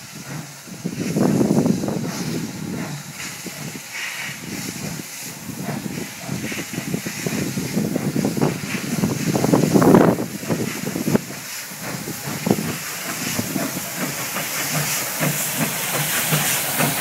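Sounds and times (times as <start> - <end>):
steam hissing: 0.0 - 17.0
steam locomotive chuffing: 0.0 - 17.0.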